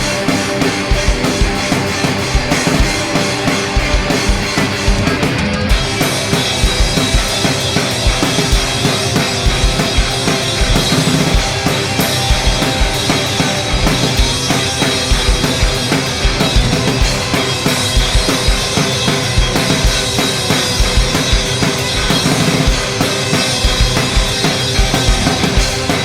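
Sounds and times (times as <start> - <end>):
drum kit beat: 0.0 - 26.0
rock band playing: 0.0 - 26.0.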